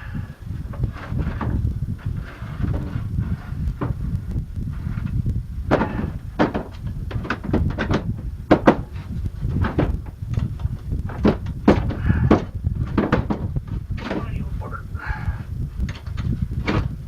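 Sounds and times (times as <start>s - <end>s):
low rumble: 0.0s - 17.0s
hard knocks and thuds: 0.7s - 14.5s, 15.9s - 17.0s.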